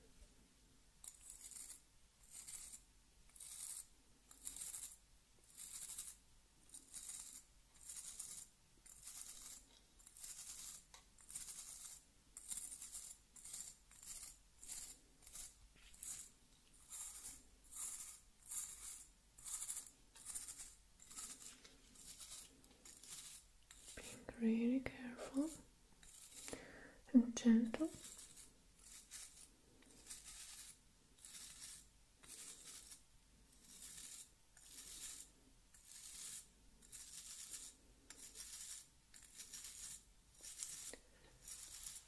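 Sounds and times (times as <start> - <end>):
razor scraping through shaving foam: 1.0 - 2.8, 3.4 - 24.0, 25.3 - 26.6, 27.8 - 33.0, 33.6 - 42.0.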